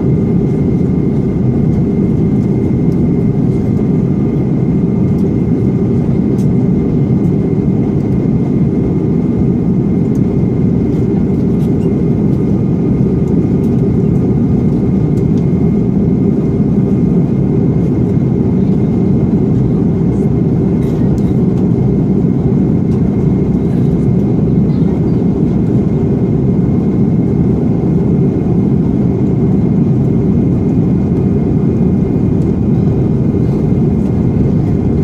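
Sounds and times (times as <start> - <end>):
airliner cabin engine drone: 0.0 - 35.0.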